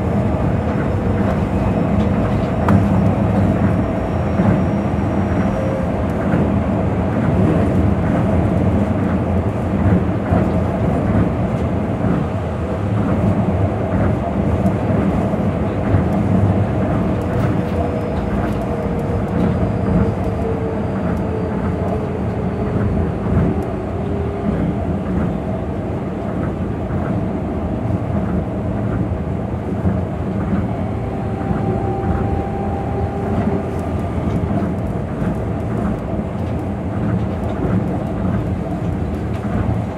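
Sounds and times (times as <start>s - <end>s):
train rumble from inside: 0.0s - 39.9s.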